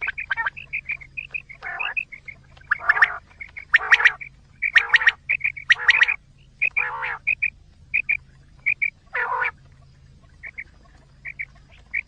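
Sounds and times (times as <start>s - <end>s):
faint low hum: 0.0s - 12.0s
quail calls: 0.0s - 12.0s.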